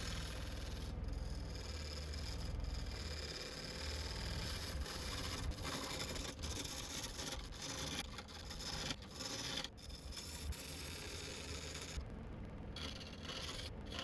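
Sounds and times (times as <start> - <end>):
sandpaper rasping on spinning wood: 0.0 - 12.0.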